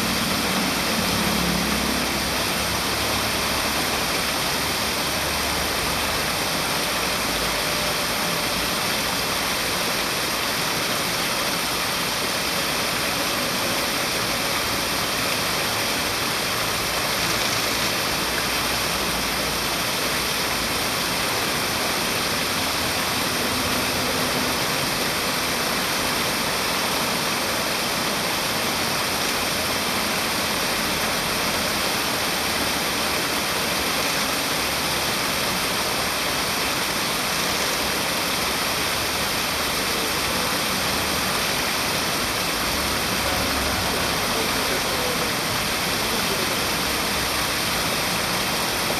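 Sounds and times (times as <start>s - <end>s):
water rushing: 0.0s - 48.9s.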